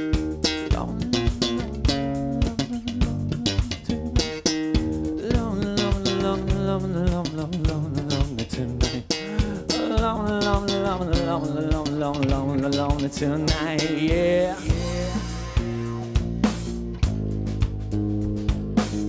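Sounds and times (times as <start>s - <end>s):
funk rock band playing: 0.0s - 19.0s
melodic line with bending notes: 0.0s - 19.0s.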